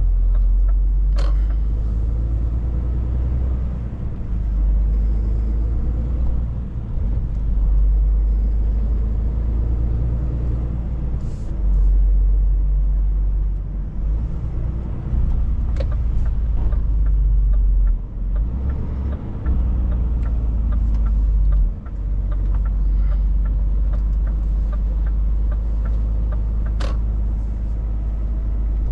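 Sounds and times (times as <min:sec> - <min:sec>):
truck diesel engine rumbling: 0:00.0 - 0:28.9.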